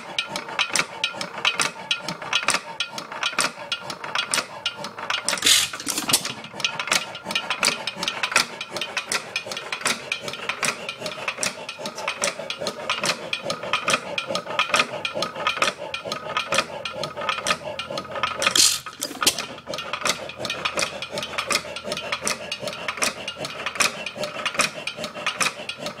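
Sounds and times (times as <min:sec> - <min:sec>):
engine clattering clicks: 0:00.0 - 0:26.0.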